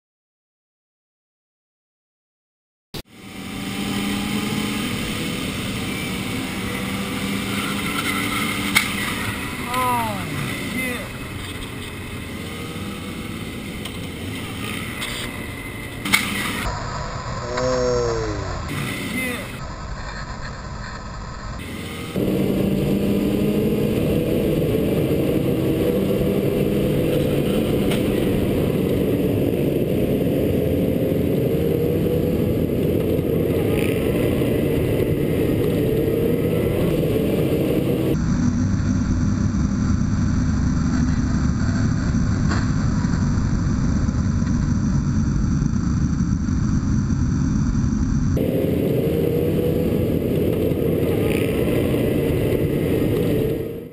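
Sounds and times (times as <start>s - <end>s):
motorcycle engine revving: 3.0s - 53.9s.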